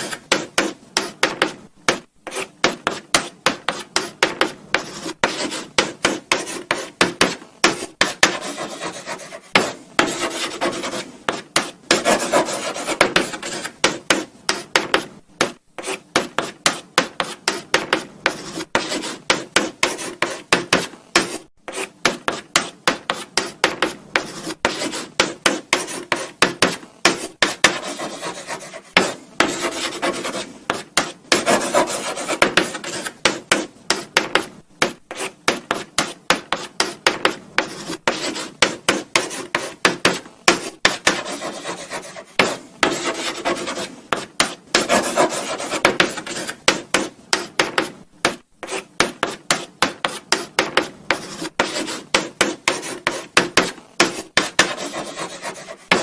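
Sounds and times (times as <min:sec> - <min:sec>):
chalk scratching on blackboard: 0:00.0 - 0:01.6, 0:02.2 - 0:56.0.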